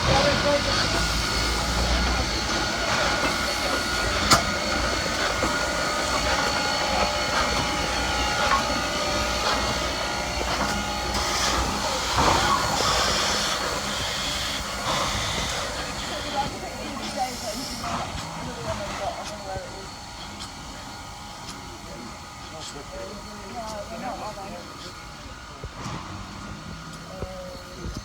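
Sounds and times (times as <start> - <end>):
steam hiss: 0.0 - 28.0
train rail noise: 0.0 - 28.0.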